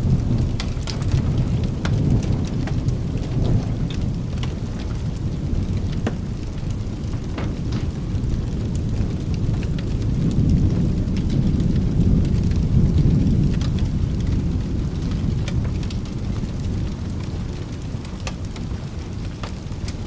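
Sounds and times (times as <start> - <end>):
fireplace crackles: 0.0 - 20.0
rolling thunder: 0.0 - 20.0
steady rain: 0.0 - 20.0.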